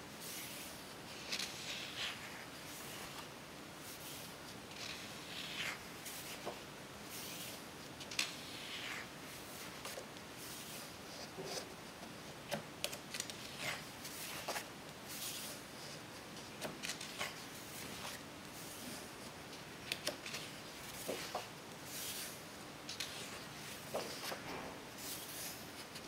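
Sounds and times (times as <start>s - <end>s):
book pages turning: 0.2s - 26.0s.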